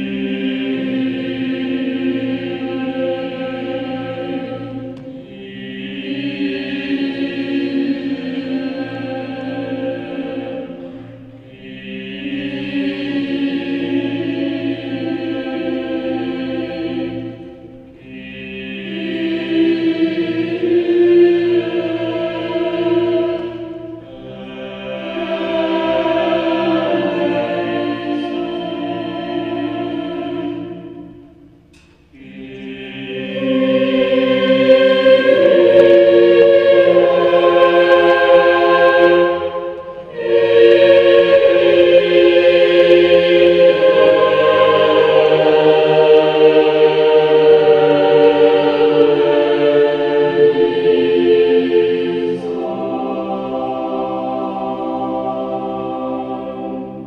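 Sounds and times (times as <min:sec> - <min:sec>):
choir singing held chords: 0:00.0 - 0:57.0.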